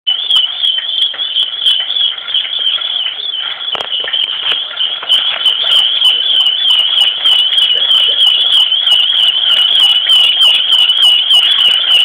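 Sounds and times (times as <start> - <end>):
shopping cart squealing: 0.1 - 12.0.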